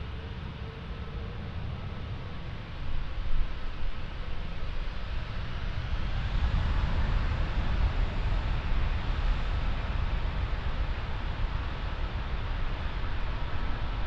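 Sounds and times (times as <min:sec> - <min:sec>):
jet engine rumble with hiss: 0:00.0 - 0:14.0.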